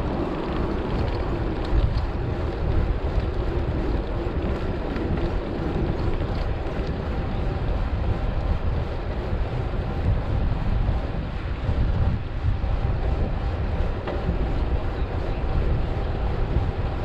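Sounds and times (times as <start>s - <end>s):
tyres rolling on asphalt: 0.0s - 17.0s
wind rushing over microphone: 0.0s - 17.0s.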